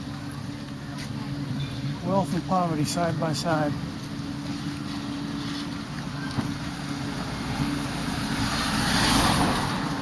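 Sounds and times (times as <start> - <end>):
steady motor hum: 0.0 - 10.0.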